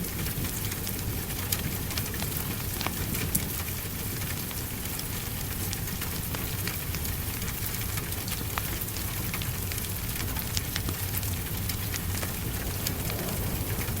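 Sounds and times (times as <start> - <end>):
crackling wood fire: 0.0 - 14.0
rain on glass: 0.0 - 14.0.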